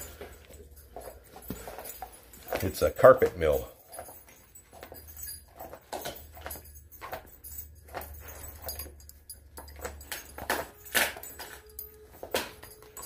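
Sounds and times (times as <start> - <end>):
dogs chewing bones: 0.0 - 13.0.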